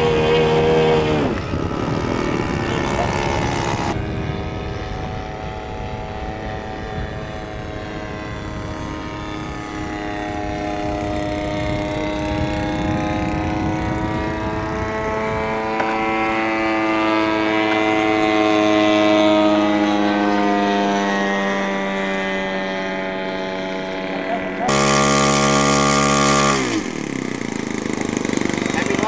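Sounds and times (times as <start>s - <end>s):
model plane engine and propeller: 0.0s - 29.0s.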